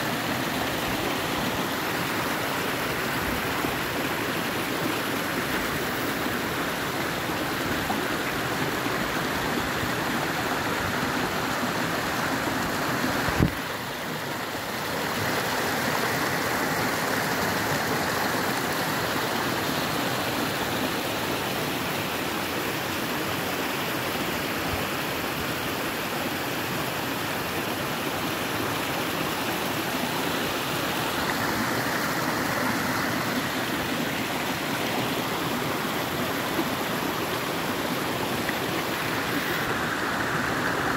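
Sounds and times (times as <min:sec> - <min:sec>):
stream splashing over stones: 0:00.0 - 0:40.9.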